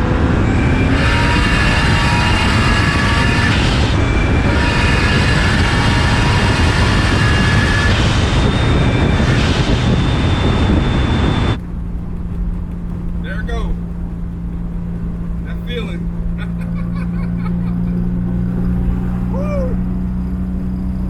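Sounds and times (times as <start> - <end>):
car engine at full throttle: 0.0 - 21.0.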